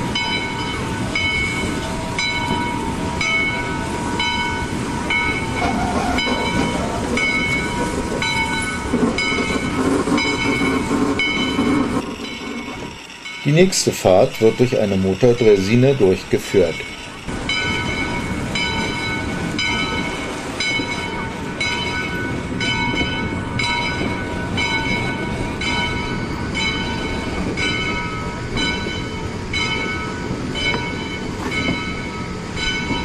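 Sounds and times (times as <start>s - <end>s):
steam locomotive bell ringing: 0.0s - 33.0s
train rumbling and rattling: 0.0s - 33.0s.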